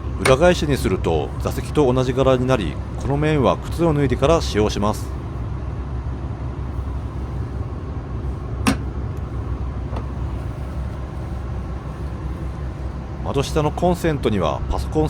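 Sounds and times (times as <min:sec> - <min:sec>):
diesel railcar rumble: 0:00.0 - 0:15.0.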